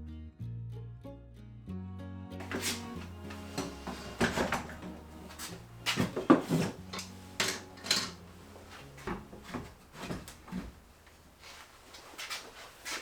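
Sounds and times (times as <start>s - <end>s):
wooden knocks and clunks: 2.4s - 13.0s.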